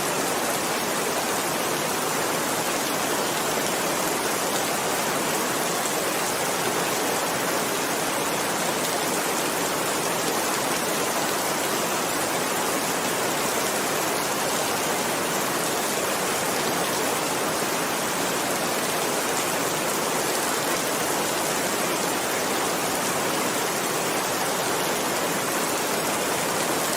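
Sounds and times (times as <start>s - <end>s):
dense rainfall hiss: 0.0s - 26.9s.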